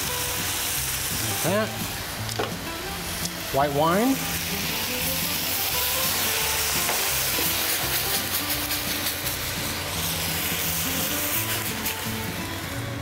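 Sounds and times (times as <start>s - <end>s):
background music with held notes: 0.0s - 13.0s
wine sizzling in hot pan: 0.0s - 13.0s.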